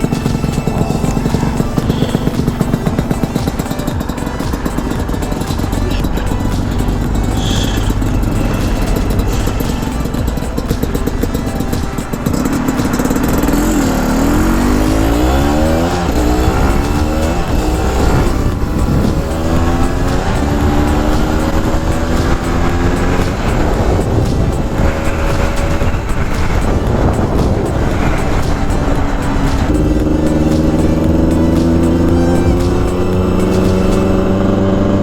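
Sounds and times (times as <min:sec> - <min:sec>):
two-stroke motorcycle engine: 0:00.0 - 0:35.0.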